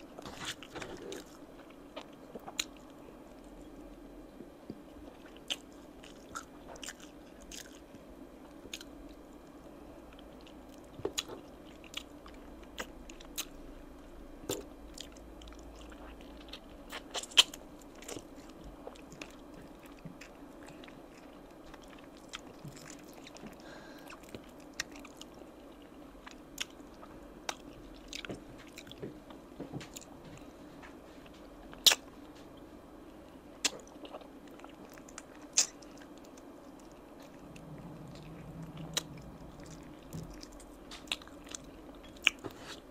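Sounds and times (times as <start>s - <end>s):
faint steady hum: 0.0s - 42.9s
chewing: 0.1s - 3.7s, 4.7s - 9.2s, 14.5s - 32.5s, 33.6s - 42.8s.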